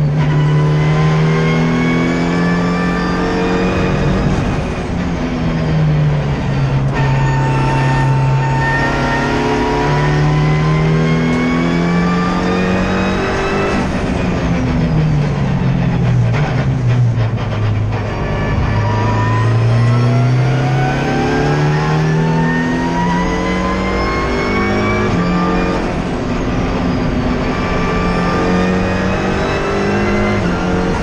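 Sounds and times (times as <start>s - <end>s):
race car engine at full throttle: 0.0s - 31.0s.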